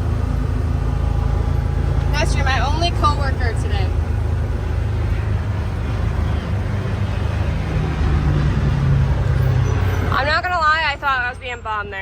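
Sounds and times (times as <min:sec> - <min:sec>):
low-flying airplane passing overhead: 0:00.0 - 0:11.2
vehicle engine running: 0:00.0 - 0:12.0.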